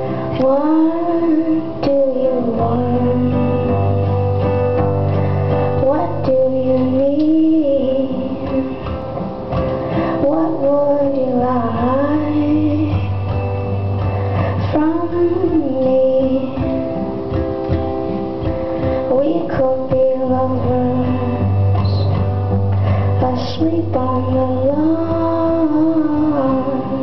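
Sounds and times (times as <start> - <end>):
woman singing: 0.0 - 4.3, 5.6 - 17.6, 18.8 - 27.0
instrumental accompaniment: 0.0 - 27.0.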